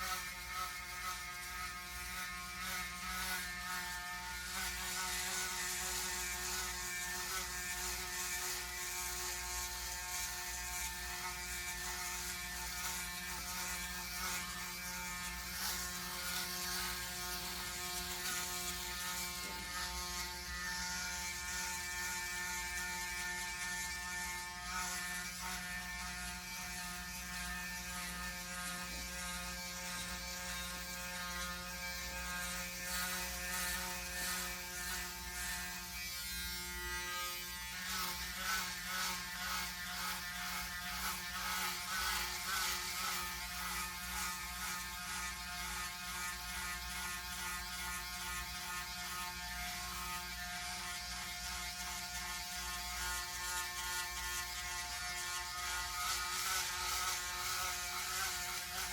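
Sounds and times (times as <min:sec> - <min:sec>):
electric shaver buzzing: 0:00.0 - 0:58.9.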